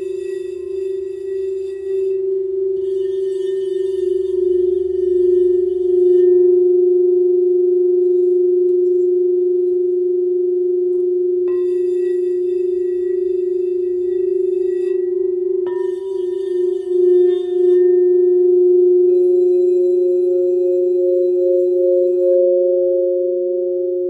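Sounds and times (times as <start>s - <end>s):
higher singing bowl ringing: 0.0s - 24.0s
singing bowl steady tone: 0.0s - 24.0s.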